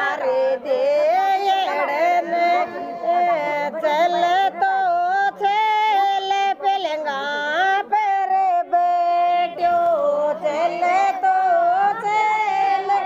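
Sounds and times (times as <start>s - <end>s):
women singing folk song: 0.0s - 13.0s.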